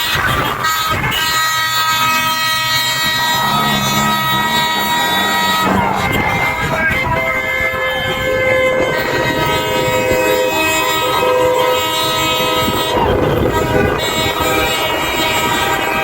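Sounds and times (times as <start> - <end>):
passing traffic: 0.0 - 16.0
vehicle horns honking: 0.0 - 16.0.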